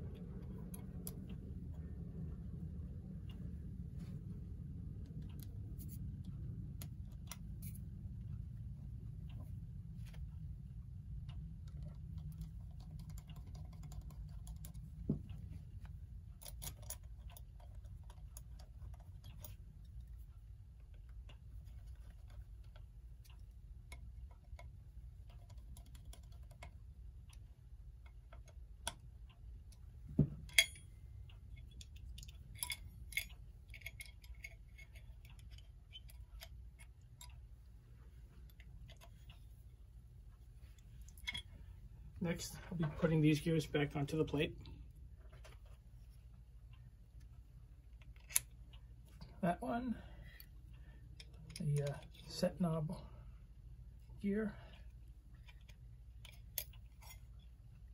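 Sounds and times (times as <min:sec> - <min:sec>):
metal clock parts clicking: 0:00.0 - 0:02.1, 0:05.0 - 0:46.1, 0:46.7 - 0:53.0, 0:54.5 - 0:57.9
steady low hum: 0:00.0 - 0:57.9.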